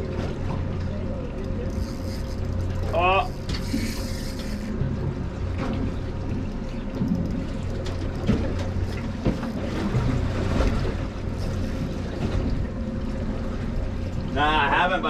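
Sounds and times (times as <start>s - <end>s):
boat engine running: 0.0s - 15.0s
water washing against hull: 0.0s - 15.0s.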